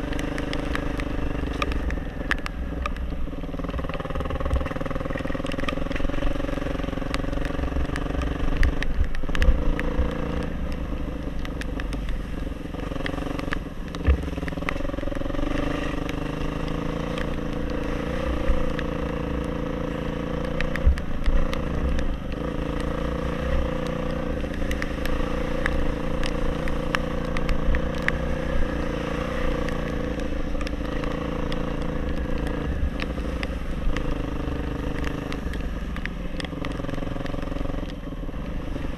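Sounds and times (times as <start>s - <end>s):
off-road motorcycle engine: 0.0s - 38.9s.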